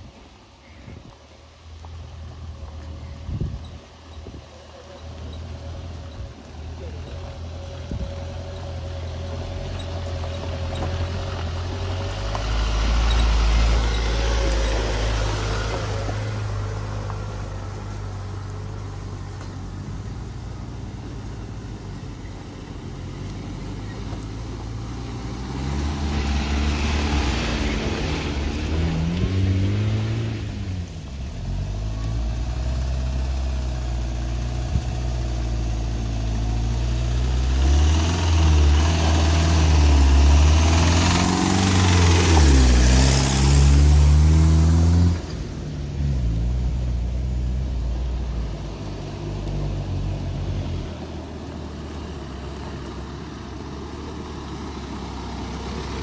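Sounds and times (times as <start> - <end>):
vehicle engines revving: 0.0 - 56.0
vehicles driving on dirt track: 0.0 - 56.0.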